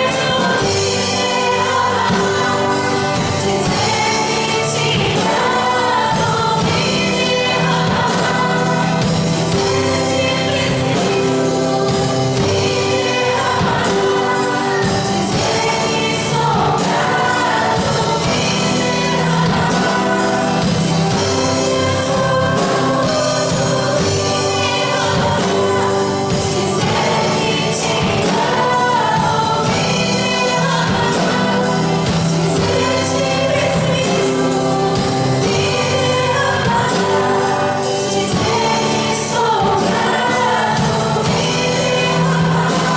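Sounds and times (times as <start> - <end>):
group singing worship song: 0.0 - 42.9
instrumental accompaniment: 0.0 - 42.9.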